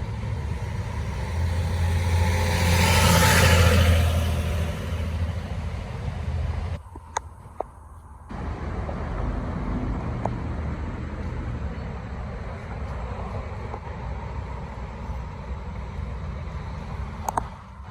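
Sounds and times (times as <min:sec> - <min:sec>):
low road noise rumble: 0:00.0 - 0:17.9.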